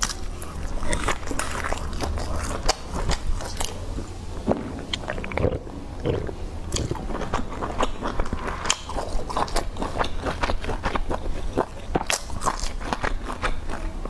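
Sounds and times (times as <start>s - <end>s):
chewing: 0.0s - 4.1s, 4.8s - 14.0s.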